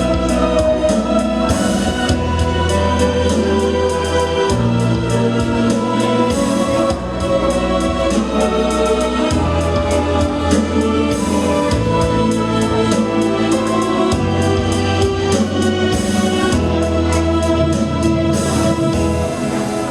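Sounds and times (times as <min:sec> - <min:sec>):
bass line: 0:00.0 - 0:19.9.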